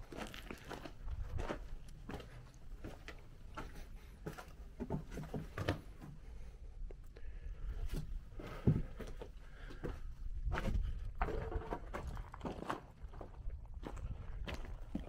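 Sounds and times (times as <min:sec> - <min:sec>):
footsteps on stony ground: 0:00.0 - 0:06.2, 0:07.8 - 0:15.0.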